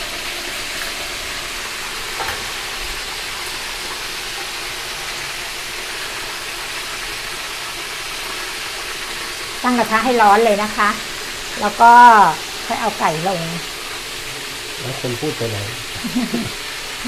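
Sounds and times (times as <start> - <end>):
oil bubbling and sizzling: 0.0 - 17.0.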